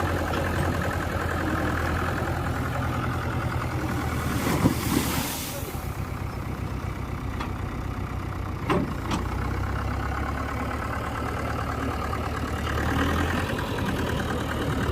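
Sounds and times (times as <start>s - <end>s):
diesel tractor engine idling: 0.0s - 14.9s.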